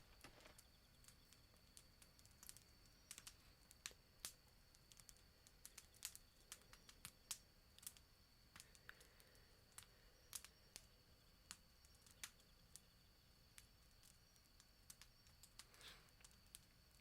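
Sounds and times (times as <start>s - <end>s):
faint steady high hiss: 0.0s - 17.0s
wood fire crackling: 0.0s - 17.0s.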